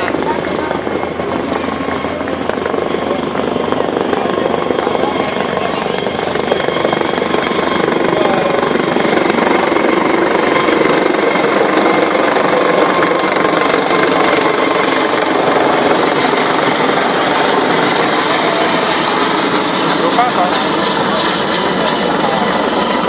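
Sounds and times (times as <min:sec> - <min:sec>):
helicopter rotor and engine: 0:00.0 - 0:23.0.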